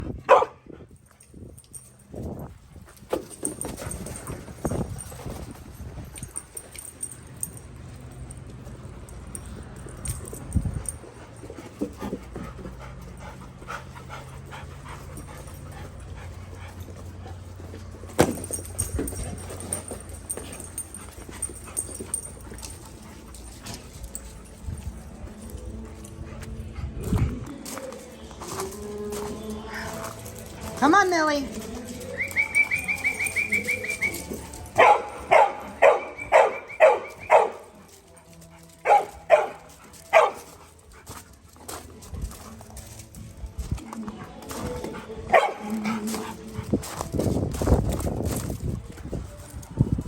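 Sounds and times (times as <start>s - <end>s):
dogs panting: 2.6s - 50.0s.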